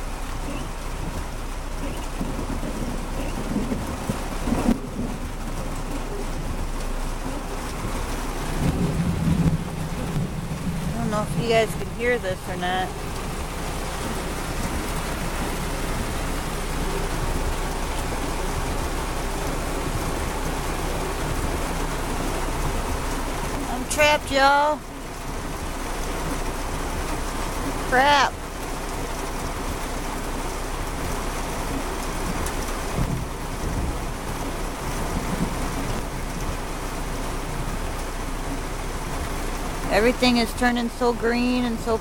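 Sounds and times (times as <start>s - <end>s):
heavy rain on a car: 0.0s - 42.0s.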